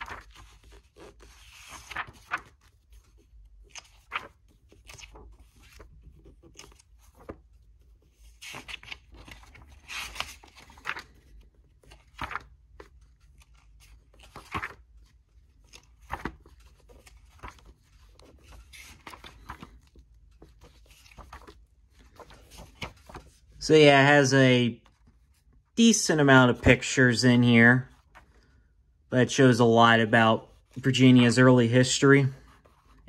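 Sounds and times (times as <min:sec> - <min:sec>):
book pages turning: 0:00.0 - 0:23.7, 0:26.4 - 0:28.6, 0:30.2 - 0:33.0.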